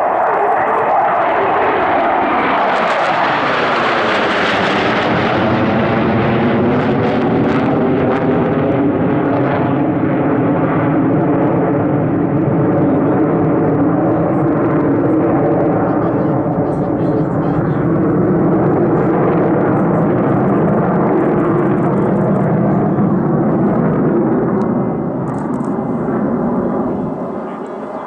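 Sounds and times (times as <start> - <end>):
fighter jets roaring overhead: 0.0 - 28.0.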